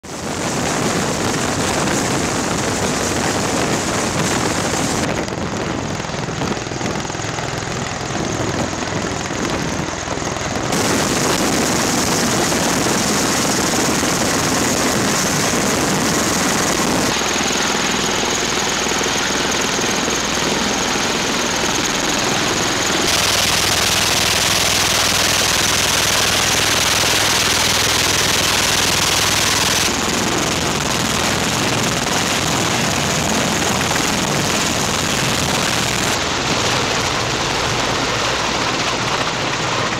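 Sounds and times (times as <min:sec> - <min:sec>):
tiltrotor aircraft engines and rotors: 0:00.0 - 0:39.9.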